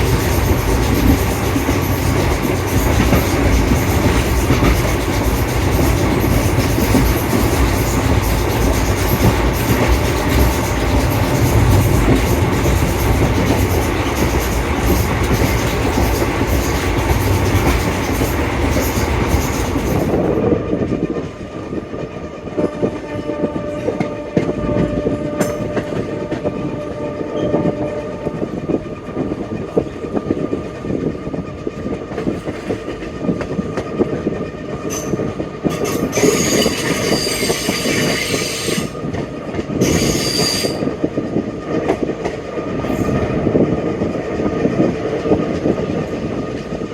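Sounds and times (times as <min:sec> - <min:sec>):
passenger train running on track: 0:00.0 - 0:46.9.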